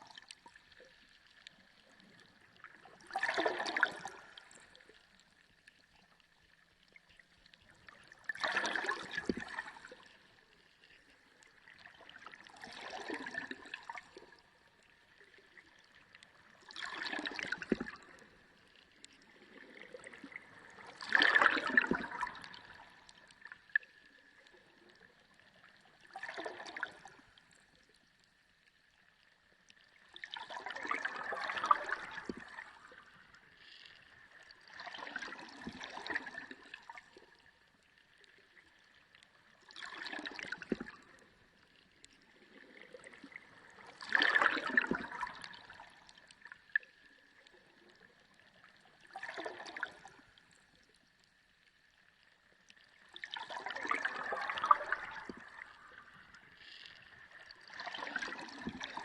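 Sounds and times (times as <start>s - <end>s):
underwater bubbling and gurgling: 0.0s - 59.0s.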